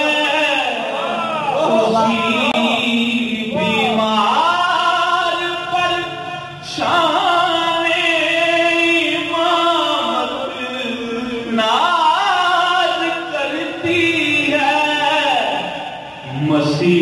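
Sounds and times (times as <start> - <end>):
man singing solo: 0.0 - 17.0.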